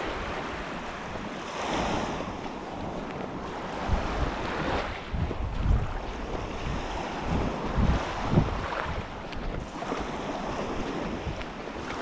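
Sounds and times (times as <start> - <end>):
waves washing onto shore: 0.0 - 12.0
wind buffeting microphone: 0.0 - 12.0.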